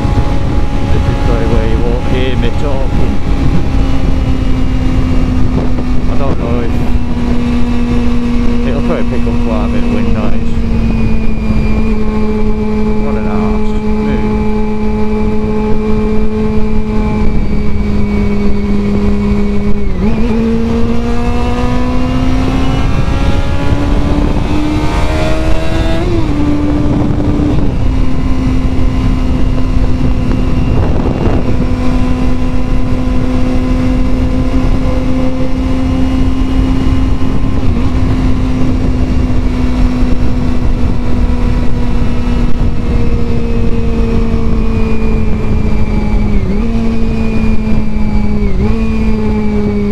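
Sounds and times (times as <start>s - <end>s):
motorcycle engine at road speed: 0.0s - 49.9s
wind rush on microphone: 0.0s - 49.9s.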